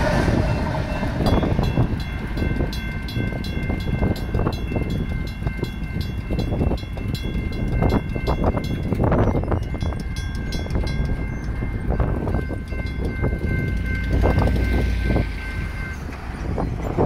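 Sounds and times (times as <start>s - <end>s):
freight train rumble: 0.0s - 17.0s
electronic crossing bell tone: 0.5s - 17.0s
mechanical bell striking: 1.0s - 16.9s.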